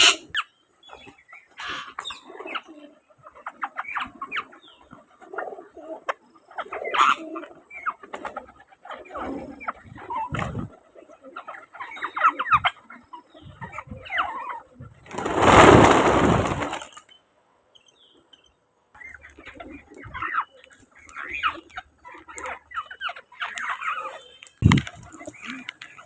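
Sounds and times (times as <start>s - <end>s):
birds chirping and calling: 0.0s - 14.9s, 17.8s - 26.0s.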